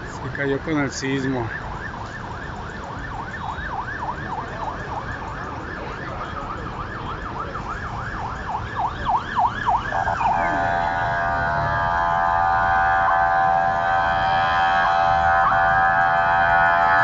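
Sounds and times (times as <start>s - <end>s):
street traffic rumble: 0.0s - 17.0s
siren yelping: 0.9s - 17.0s.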